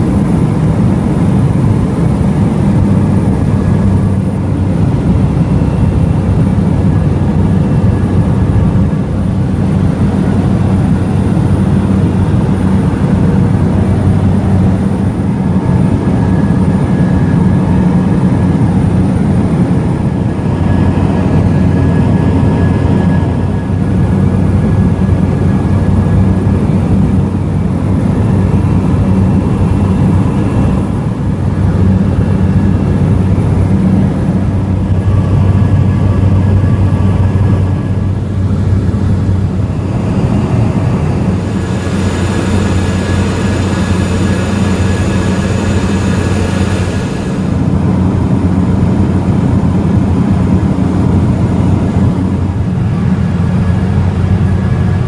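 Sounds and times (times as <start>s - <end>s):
airplane engine and propeller drone: 0.0s - 55.0s.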